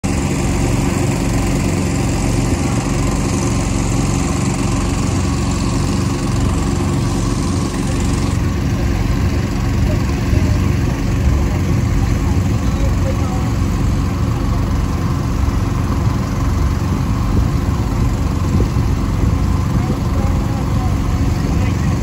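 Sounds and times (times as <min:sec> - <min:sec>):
boat engine droning: 0:00.0 - 0:22.0
water hissing along hull: 0:00.1 - 0:22.0.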